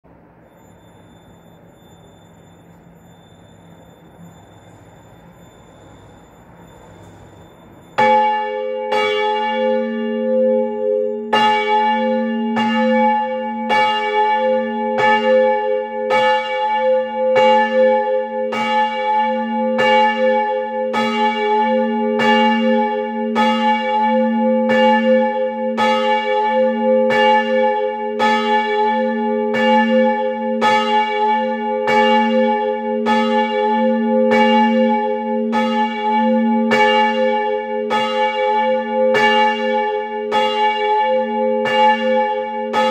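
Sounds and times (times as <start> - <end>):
church bell ringing: 0.5 - 42.9.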